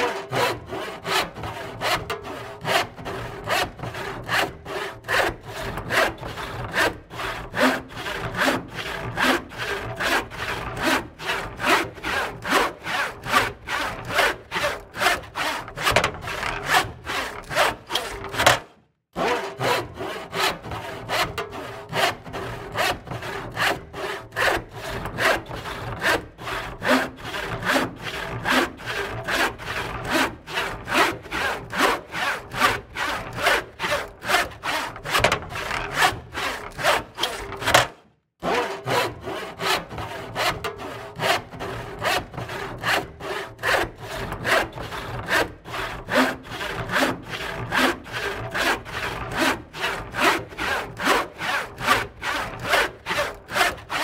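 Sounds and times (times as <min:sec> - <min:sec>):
hand saw cutting wood: 0:00.0 - 0:54.0.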